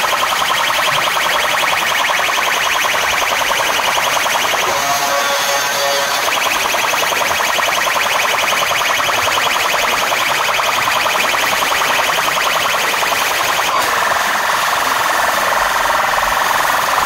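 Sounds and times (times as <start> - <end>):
loud electronic dance music: 0.0 - 16.3.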